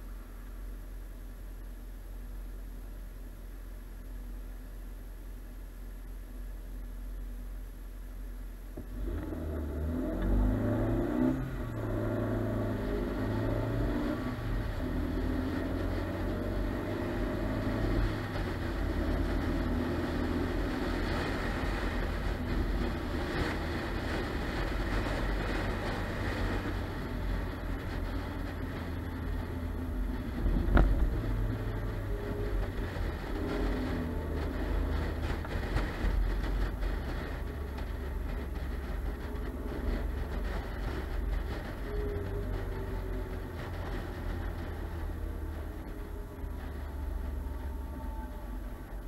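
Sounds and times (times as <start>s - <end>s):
car engine accelerating: 8.7s - 49.0s.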